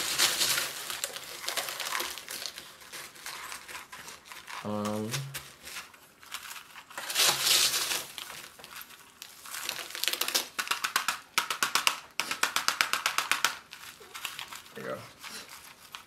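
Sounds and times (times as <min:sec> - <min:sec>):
potting mix rattling and crunching: 0:00.0 - 0:16.0.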